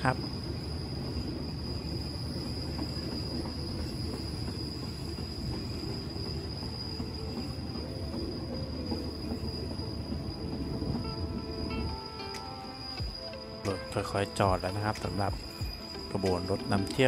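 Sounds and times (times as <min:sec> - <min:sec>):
train braking: 0:00.0 - 0:17.0
train rumbling on rails: 0:00.0 - 0:17.0.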